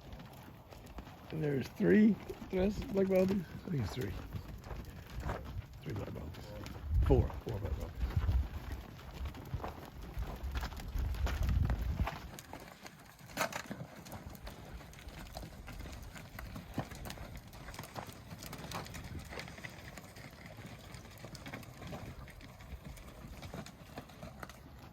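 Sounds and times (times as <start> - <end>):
hooves clopping and shuffling: 0.0 - 24.9.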